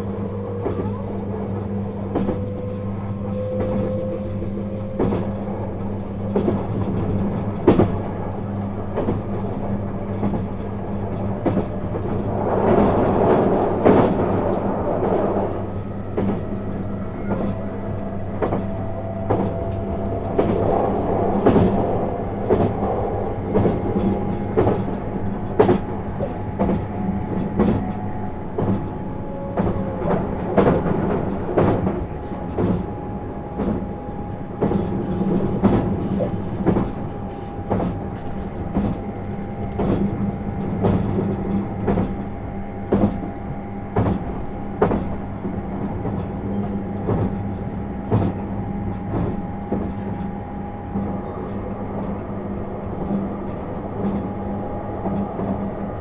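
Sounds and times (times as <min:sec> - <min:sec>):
train running gear hum and whine: 0:00.0 - 0:56.0.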